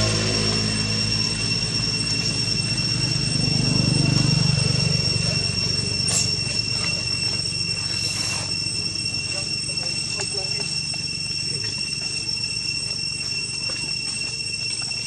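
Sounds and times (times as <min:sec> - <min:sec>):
high-pitched whine: 0:00.0 - 0:15.0
low motor hum: 0:00.0 - 0:15.0.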